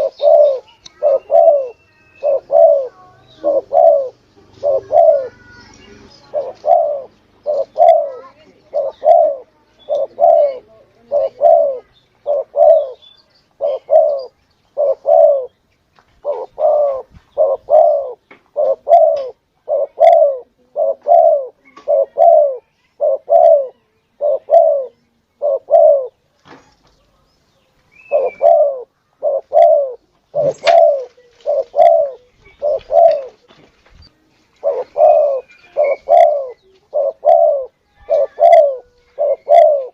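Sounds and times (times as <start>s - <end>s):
dove cooing: 0.0s - 13.0s, 13.6s - 15.6s, 16.2s - 26.2s, 28.0s - 33.5s, 34.5s - 39.9s.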